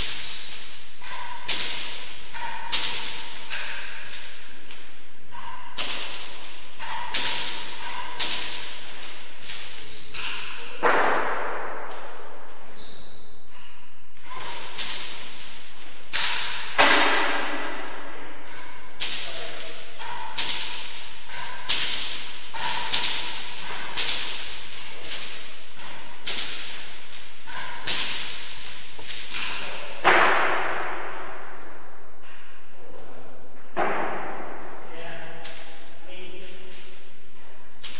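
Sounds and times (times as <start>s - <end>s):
shoes squeaking on court floor: 0.0s - 16.8s, 18.4s - 32.5s
ball hitting rackets and walls: 0.0s - 37.9s.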